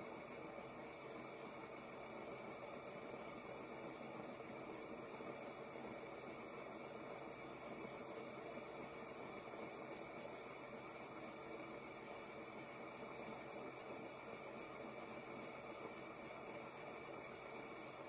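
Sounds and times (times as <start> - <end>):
fidget spinner whirring: 0.0 - 18.0.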